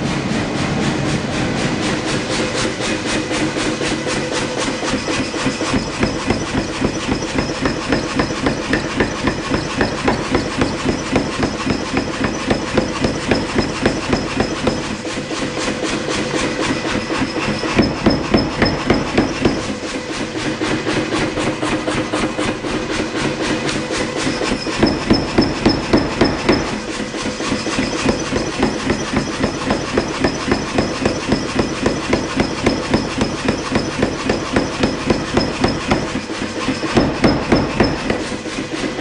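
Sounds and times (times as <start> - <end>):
hammer blows on hot metal: 0.0 - 39.0.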